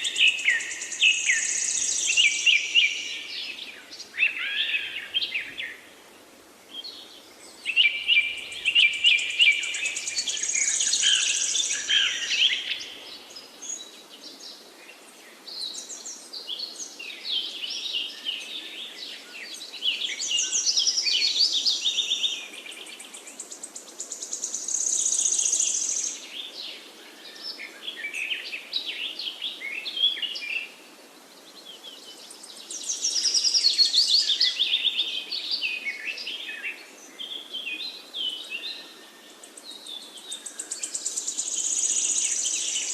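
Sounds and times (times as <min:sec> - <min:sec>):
faint background hiss: 0:00.0 - 0:42.9
songbirds chirping and trilling: 0:00.0 - 0:42.9.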